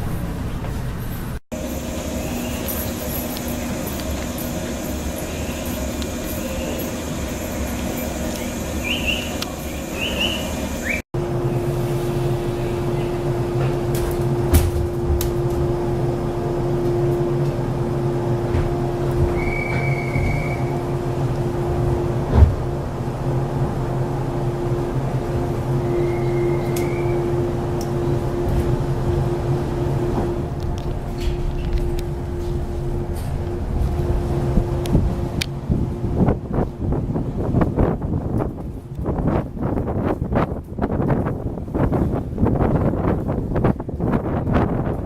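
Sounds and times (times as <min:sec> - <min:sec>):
electric train droning: 0:00.0 - 0:45.0.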